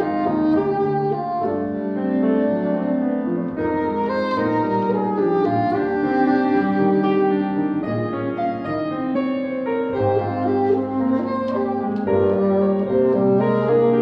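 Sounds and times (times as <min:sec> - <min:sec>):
bassoon melody: 0:00.0 - 0:14.0
grand piano accompaniment: 0:00.0 - 0:14.0.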